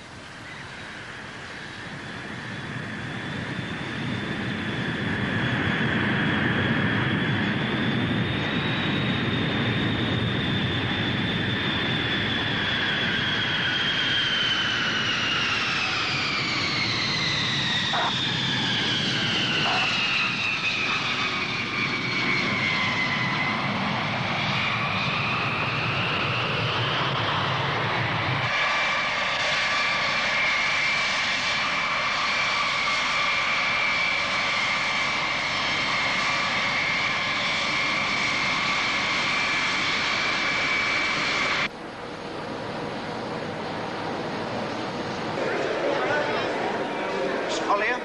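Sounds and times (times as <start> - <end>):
airplane engines whining: 0.0 - 48.0.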